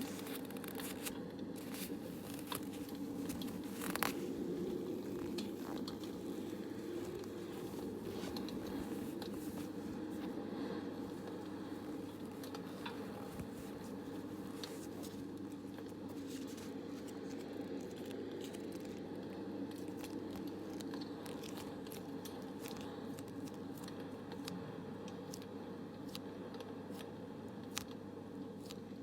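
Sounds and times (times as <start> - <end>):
low background noise: 0.0 - 29.0
small sharp crackles and clicks: 0.0 - 29.0.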